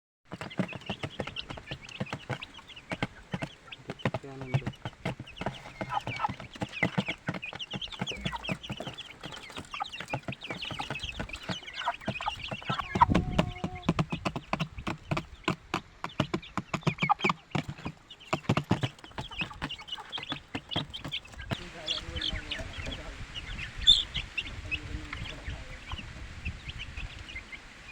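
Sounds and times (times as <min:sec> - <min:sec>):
chicks peeping: 0:00.3 - 0:27.9.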